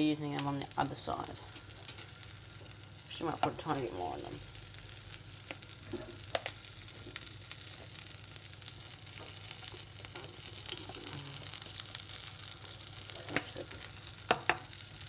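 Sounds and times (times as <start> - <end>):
fish frying in oil: 0.2 - 15.0
crackles and pops of oil: 1.4 - 3.7, 4.3 - 15.0.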